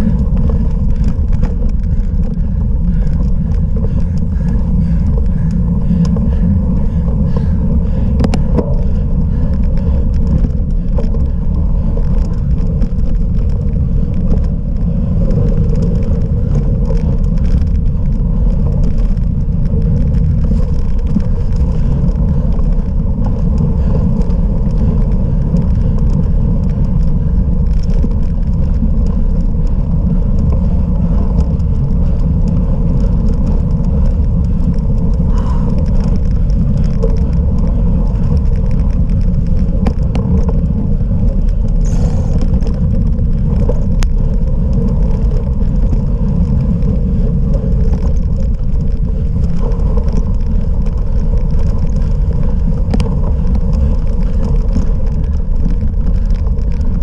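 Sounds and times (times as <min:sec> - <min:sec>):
bike clicks and rattles: 0:00.0 - 0:57.0
wind and tyre rumble: 0:00.0 - 0:57.0.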